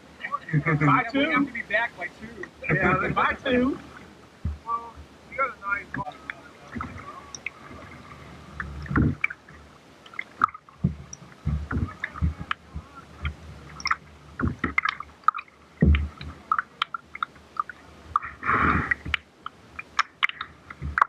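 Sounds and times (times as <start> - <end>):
paddle blades splashing: 0.0 - 21.0
water sloshing against boat: 0.0 - 21.0.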